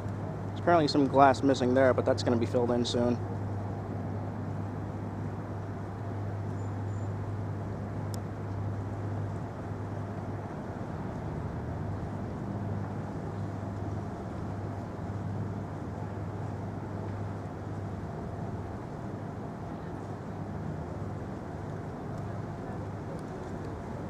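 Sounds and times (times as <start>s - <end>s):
city traffic rumble: 0.0s - 24.0s
constant hum: 0.0s - 24.0s.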